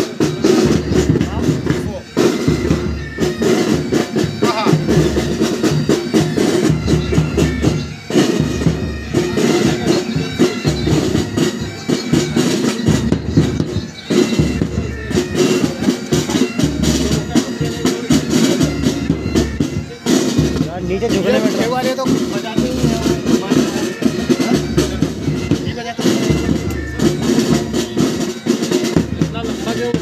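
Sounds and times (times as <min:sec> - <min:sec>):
bagpipes: 0:00.0 - 0:30.0
snare drums: 0:00.0 - 0:30.0.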